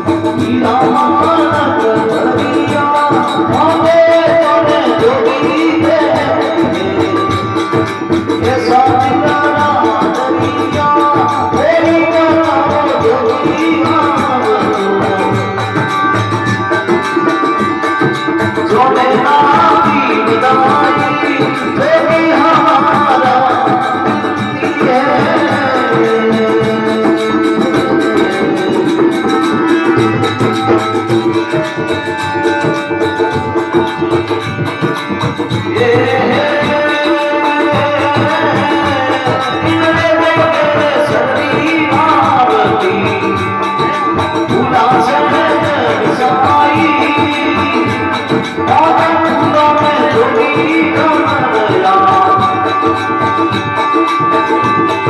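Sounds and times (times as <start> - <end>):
person singing folk devotional song: 0.0 - 55.0
steady hand drum beat: 0.0 - 55.0.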